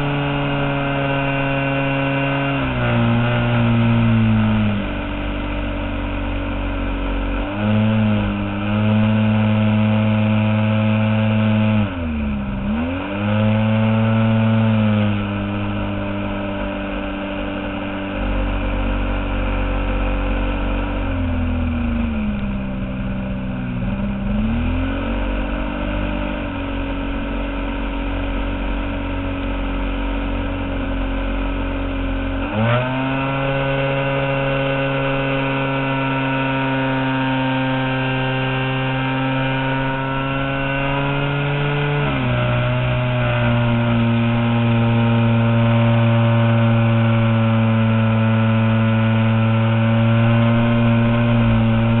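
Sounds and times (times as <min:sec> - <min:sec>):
model airplane engine and propeller: 0:00.0 - 0:52.0.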